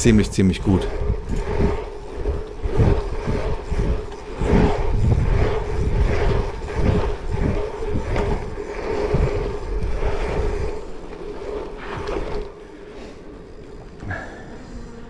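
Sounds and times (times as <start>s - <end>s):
wind buffeting microphone: 0.0s - 14.5s
bike tyres rolling on asphalt: 0.0s - 15.0s
steady hum: 0.0s - 15.0s.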